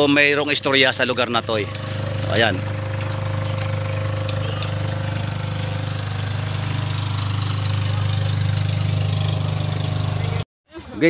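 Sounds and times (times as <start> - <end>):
engine idling: 0.0 - 10.4.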